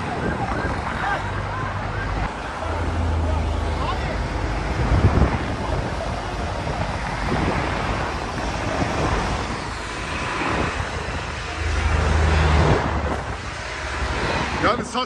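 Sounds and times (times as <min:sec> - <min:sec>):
engine rumble: 0:00.0 - 0:15.0
wind buffeting microphone: 0:00.0 - 0:15.0.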